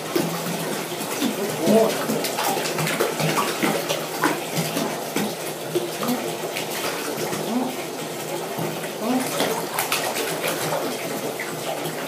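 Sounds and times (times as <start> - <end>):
bathwater splashing and sloshing: 0.0 - 12.0
puppy paws splashing: 0.0 - 12.0.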